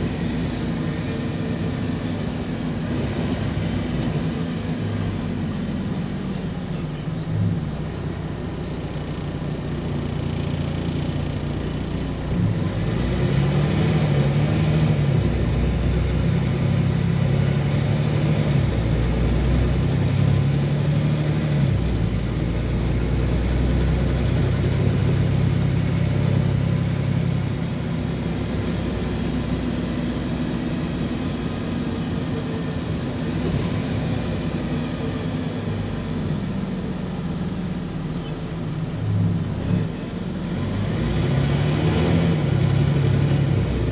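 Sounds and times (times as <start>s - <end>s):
bus engine running: 0.0s - 43.9s
road and cabin noise: 0.0s - 43.9s.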